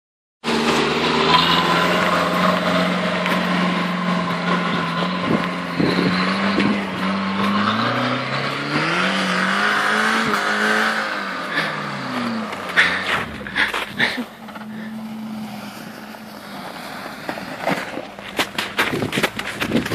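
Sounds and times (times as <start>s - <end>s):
car engine revving uphill: 0.4s - 19.9s.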